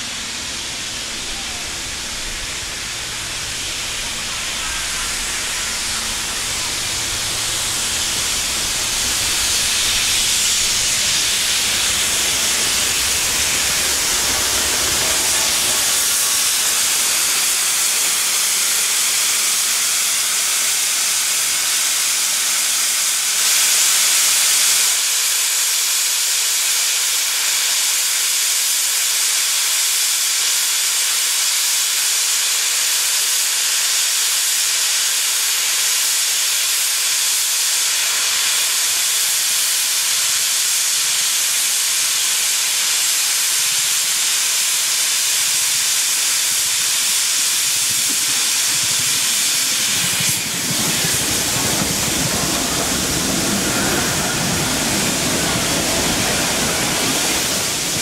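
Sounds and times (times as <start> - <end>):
steam hissing from locomotive: 0.0 - 58.0.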